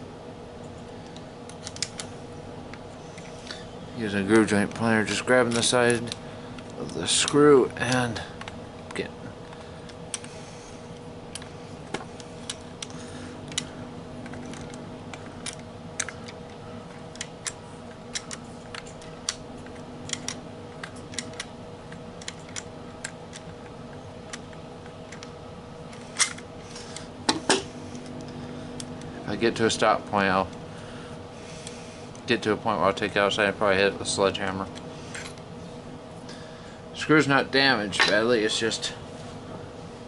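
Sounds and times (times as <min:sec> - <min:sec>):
steady background hum: 0:00.0 - 0:40.0.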